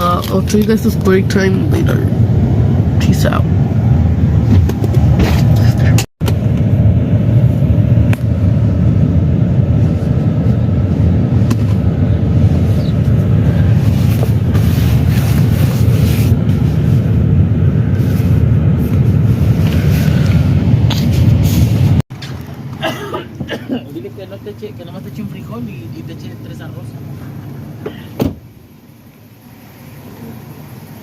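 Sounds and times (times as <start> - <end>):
car engine rumble: 0.0 - 31.0
road noise: 0.0 - 31.0.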